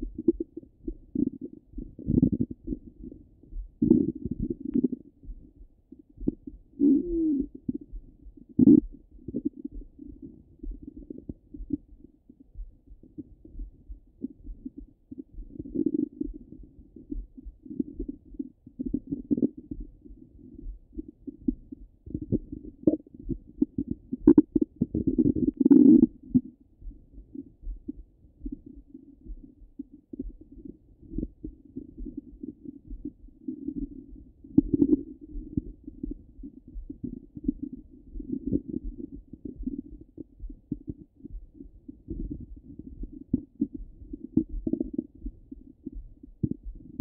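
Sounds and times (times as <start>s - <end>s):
stomach gurgles through stethoscope: 0.0s - 12.1s, 13.0s - 47.0s.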